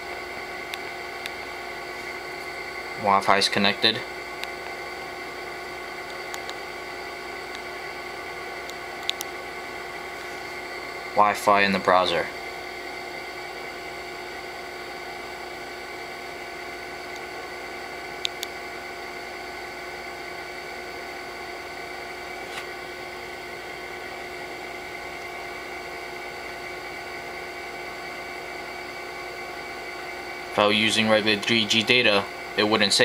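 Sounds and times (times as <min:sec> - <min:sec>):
high electrical whine: 0:00.0 - 0:33.0.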